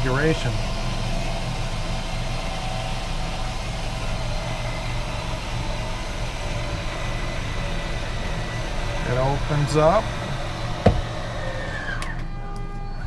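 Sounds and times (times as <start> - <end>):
slide-out motor humming: 0.0 - 13.0.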